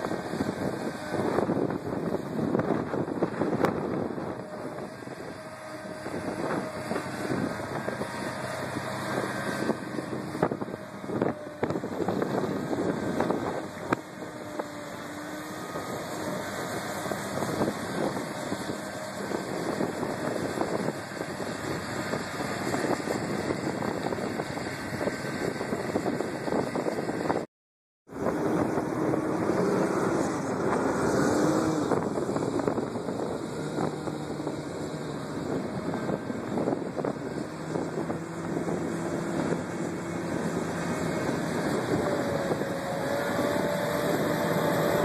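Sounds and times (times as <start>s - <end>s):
dozer blade pushing dirt: 0.0s - 27.3s, 28.2s - 45.0s
dozer diesel engine under load: 0.0s - 27.5s, 28.1s - 45.0s
wind noise on microphone: 0.0s - 27.5s, 28.1s - 45.0s.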